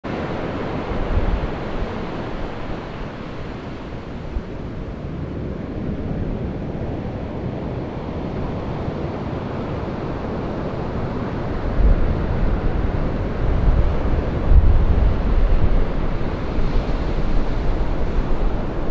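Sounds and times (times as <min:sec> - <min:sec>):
heavy ocean surf breaking: 0:00.1 - 0:18.9
wind buffeting microphone: 0:00.1 - 0:18.9.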